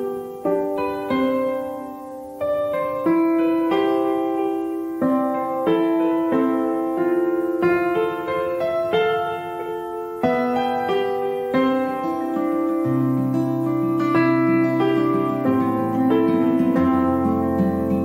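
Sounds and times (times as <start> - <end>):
soft piano notes and chords: 0.0 - 18.0.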